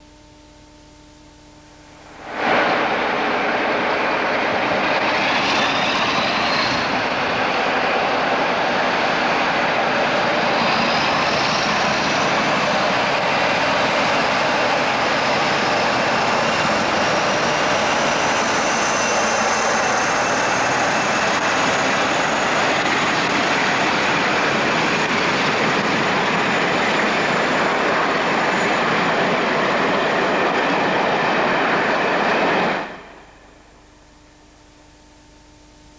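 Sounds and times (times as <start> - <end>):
diesel locomotive engines droning: 1.6 - 34.2.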